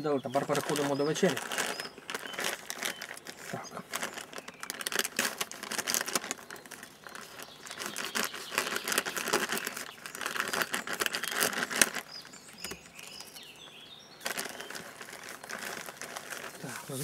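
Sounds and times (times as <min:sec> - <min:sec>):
plastic bag crackling and rustling: 0:00.2 - 0:17.0.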